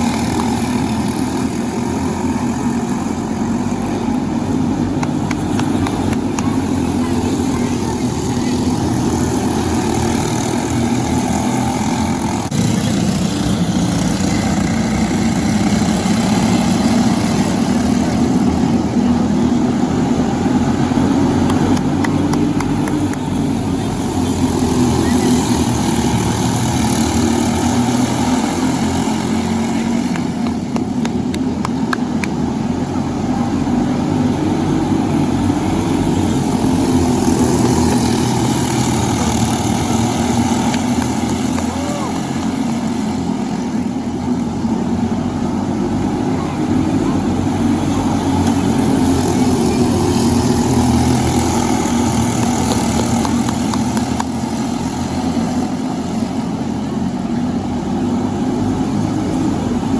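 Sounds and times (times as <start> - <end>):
kart engine running: 0.0 - 59.9.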